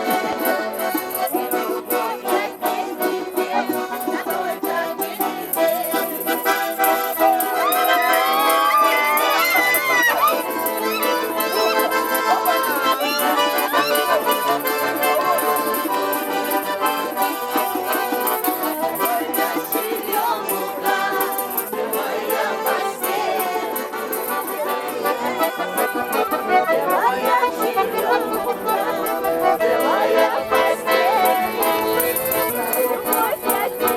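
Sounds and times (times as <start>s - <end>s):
button accordion folk tune: 0.0s - 33.9s.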